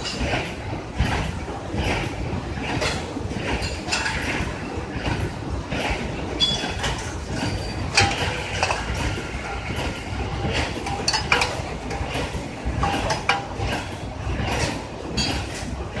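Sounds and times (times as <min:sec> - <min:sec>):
machine mechanical rumble: 0:00.0 - 0:16.0.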